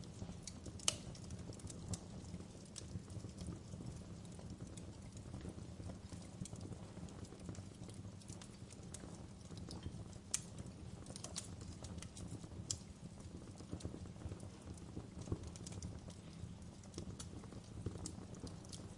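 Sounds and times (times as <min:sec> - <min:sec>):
fire crackles and pops: 0:00.0 - 0:18.9
low rumble of flames: 0:00.0 - 0:18.9.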